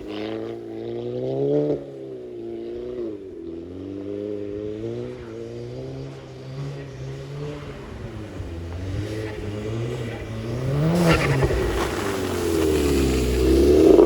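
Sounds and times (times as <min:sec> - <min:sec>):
car engine revving: 0:00.0 - 0:14.0
exhaust crackle: 0:00.0 - 0:14.0.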